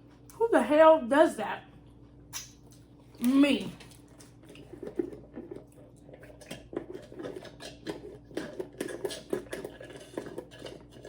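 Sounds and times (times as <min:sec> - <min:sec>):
person chewing food: 0:01.8 - 0:11.0.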